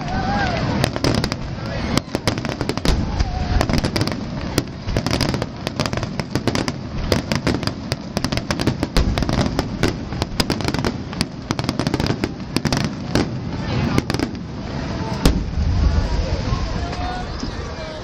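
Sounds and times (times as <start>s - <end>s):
continuous low rumble: 0.0s - 18.0s
fireworks bangs and crackles: 0.0s - 18.0s.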